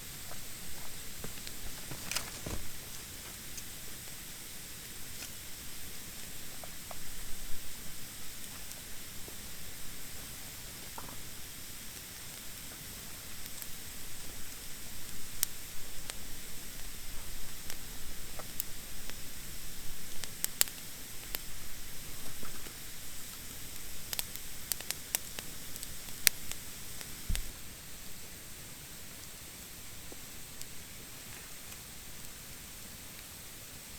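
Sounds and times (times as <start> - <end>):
campfire hissing: 0.0 - 33.9
fire popping and crackling: 0.1 - 27.6.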